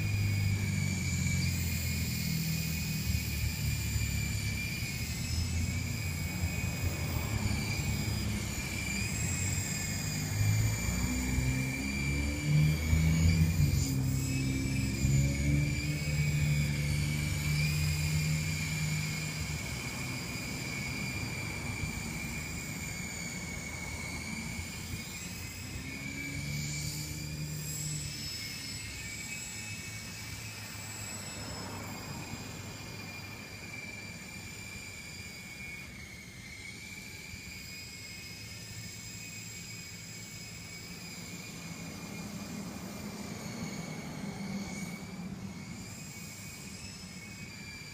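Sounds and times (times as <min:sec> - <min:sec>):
rotor blades humming: 0:00.0 - 0:47.9
toy helicopter motor whine: 0:00.0 - 0:47.9.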